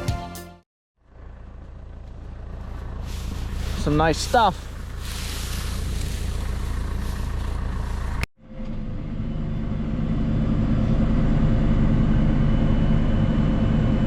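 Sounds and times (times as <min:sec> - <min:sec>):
tractor engine running: 0:01.0 - 0:14.0.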